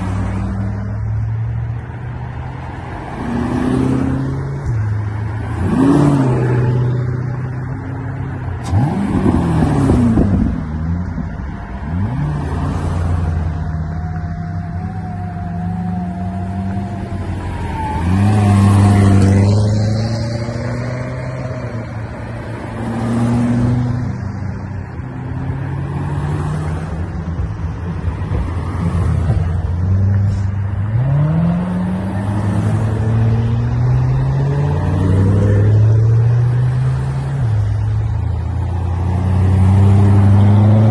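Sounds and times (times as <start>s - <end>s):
cars driving past: 0.0s - 40.9s.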